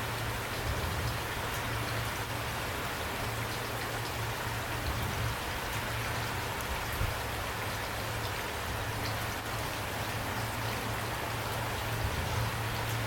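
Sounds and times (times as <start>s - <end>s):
rain pattering on a surface: 0.0s - 13.0s.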